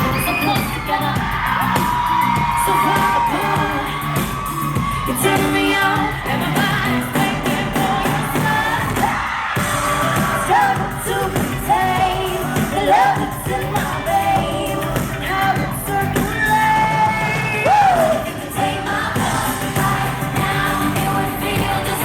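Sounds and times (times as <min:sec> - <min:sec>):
female vocal group singing: 0:00.0 - 0:22.0
loud backing music: 0:00.0 - 0:22.0.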